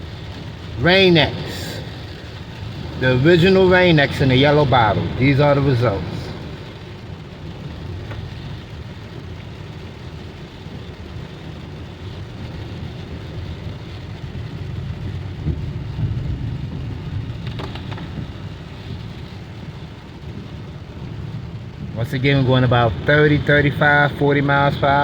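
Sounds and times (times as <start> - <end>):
rain hissing on windshield: 0.0 - 25.0
road and tyre rumble: 0.0 - 25.0.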